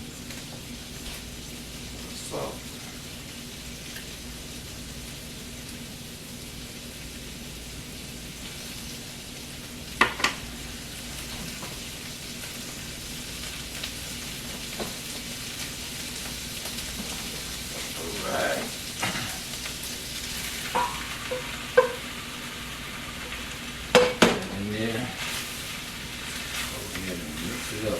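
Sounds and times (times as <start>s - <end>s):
butter sizzling in a pot: 0.0s - 27.9s.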